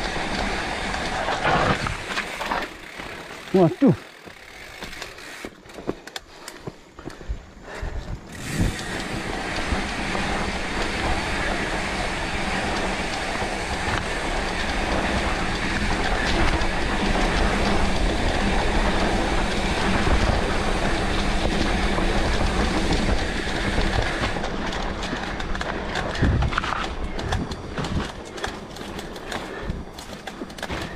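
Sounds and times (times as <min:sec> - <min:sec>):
bike tyres rumbling on dirt: 0:00.0 - 0:30.9.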